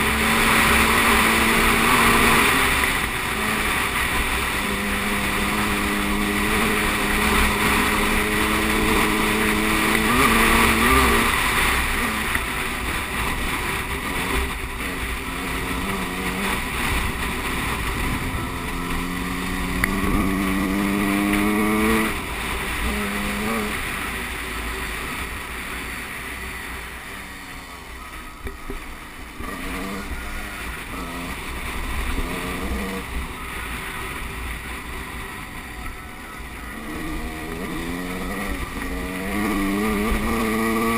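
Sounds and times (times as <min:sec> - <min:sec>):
motocross bike engine revving: 0:00.0 - 0:27.6, 0:29.3 - 0:34.2, 0:36.6 - 0:40.9
steady rushing noise: 0:00.0 - 0:40.9.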